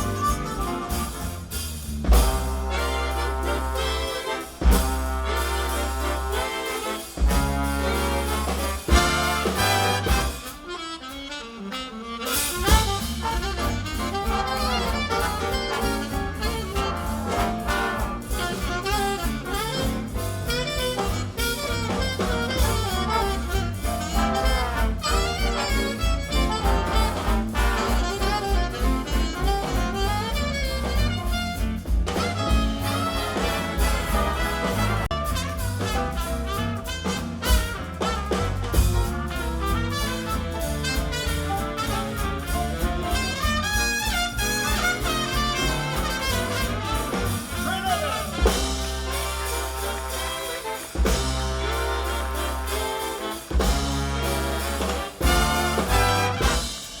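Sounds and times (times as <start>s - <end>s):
big band playing swing jazz: 0.0s - 57.0s.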